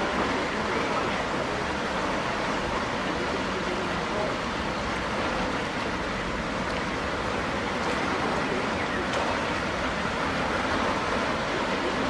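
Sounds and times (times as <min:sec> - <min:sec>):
water rushing through sluices: 0:00.0 - 0:12.0.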